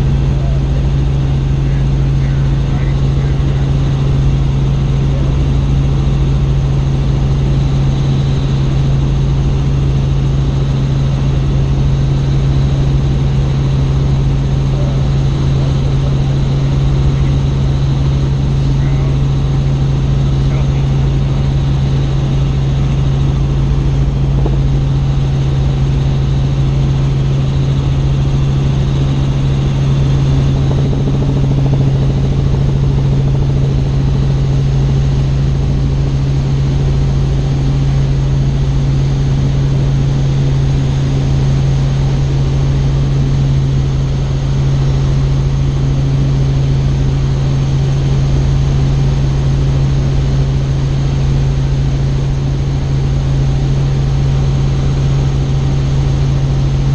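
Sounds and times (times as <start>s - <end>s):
helicopter drone in flight: 0.0s - 56.9s.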